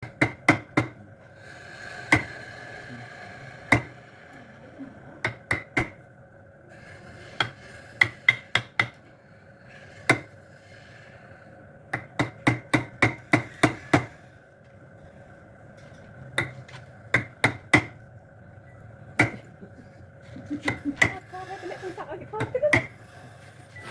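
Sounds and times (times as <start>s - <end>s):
steady hum: 0.0s - 23.9s.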